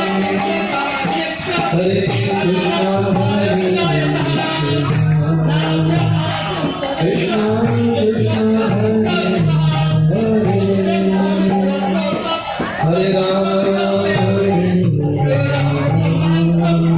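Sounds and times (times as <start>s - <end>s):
hand percussion jingling: 0.0s - 16.9s
voices singing a chant: 0.0s - 16.9s.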